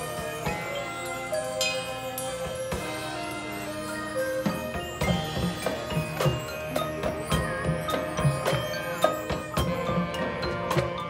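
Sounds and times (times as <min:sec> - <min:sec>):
mallet keyboard percussion: 0:00.0 - 0:11.0
marching band playing: 0:00.0 - 0:11.0.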